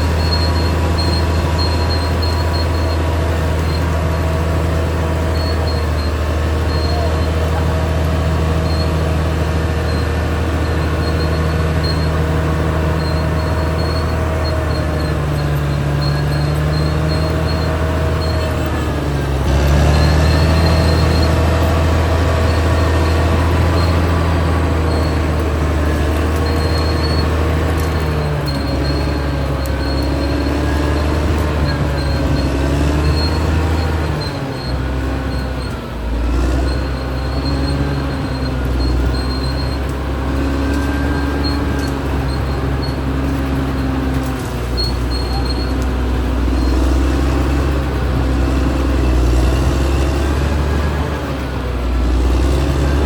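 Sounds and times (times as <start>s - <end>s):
bulldozer diesel engine: 0.0s - 53.0s
machine whining: 0.0s - 53.0s.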